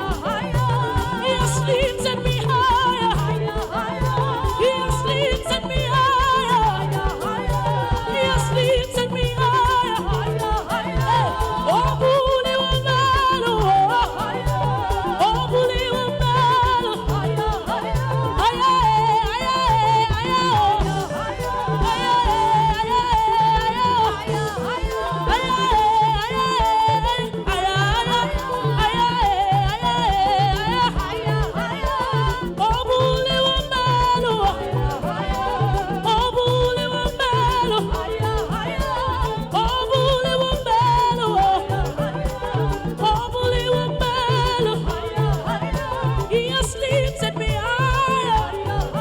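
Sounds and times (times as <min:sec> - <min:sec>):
church band worship music: 0:00.0 - 0:49.0.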